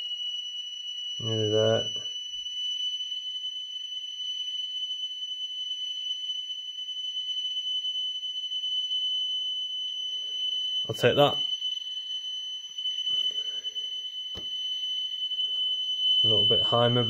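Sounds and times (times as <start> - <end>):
high test tone from small speaker: 0.0 - 17.0.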